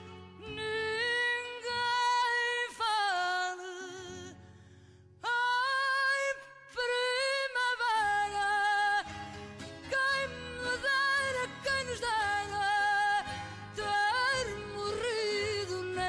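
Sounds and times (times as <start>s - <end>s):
woman singing with vibrato: 0.0s - 4.4s, 5.2s - 16.0s.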